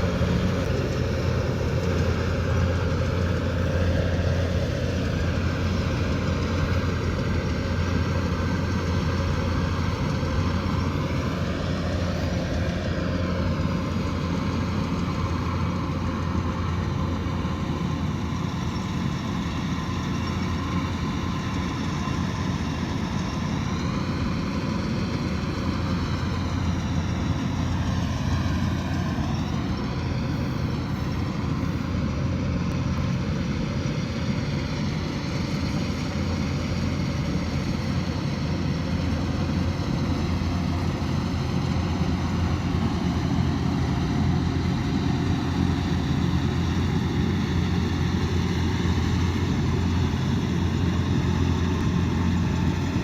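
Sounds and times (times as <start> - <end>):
combine harvester running: 0.0 - 53.0.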